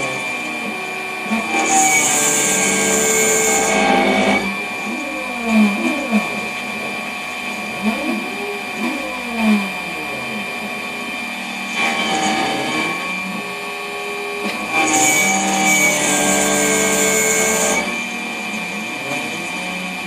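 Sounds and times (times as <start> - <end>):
machine spindle whine: 0.0 - 20.0
motor tones stepping in pitch: 0.0 - 20.0.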